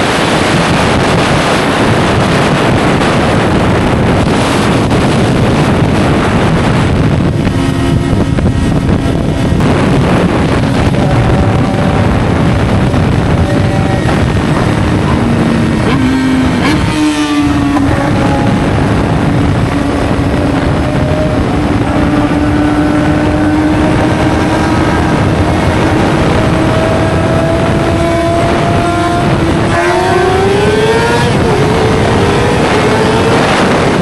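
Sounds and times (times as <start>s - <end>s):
wind rush: 0.0s - 34.0s
motorcycle engine pulling: 4.1s - 34.0s.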